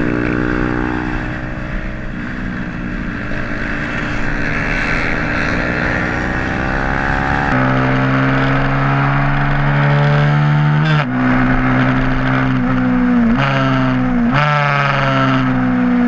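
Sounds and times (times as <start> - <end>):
motorcycle engine running hard: 0.0 - 16.0.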